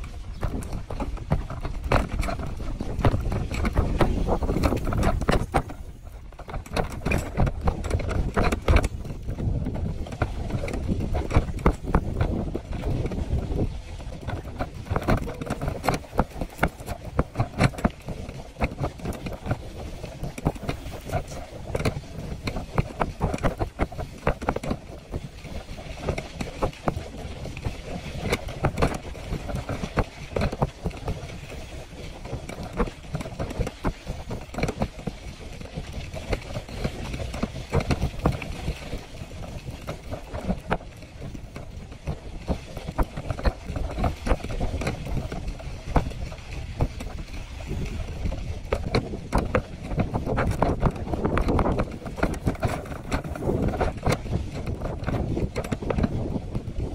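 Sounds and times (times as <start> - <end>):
bicycle rolling on dirt road: 0.0 - 56.9.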